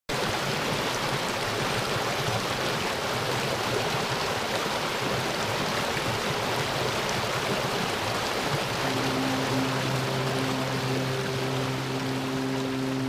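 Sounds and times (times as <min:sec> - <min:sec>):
stream running over rocks: 0:00.1 - 0:13.0.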